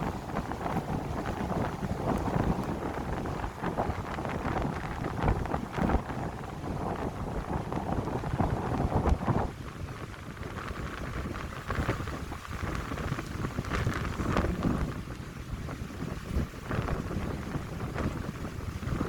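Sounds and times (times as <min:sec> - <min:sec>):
wind buffeting microphone: 0:00.0 - 0:19.0
wind through pine trees: 0:00.0 - 0:19.0.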